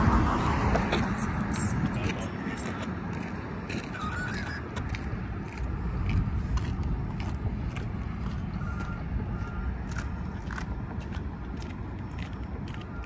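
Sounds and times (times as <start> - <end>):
distant vehicles rumbling: 0.0 - 13.0.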